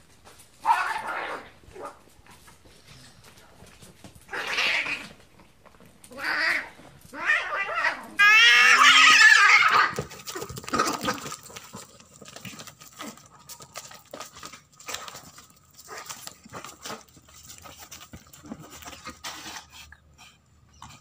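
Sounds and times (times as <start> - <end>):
cats snarling and scuffling: 0.0 - 21.0.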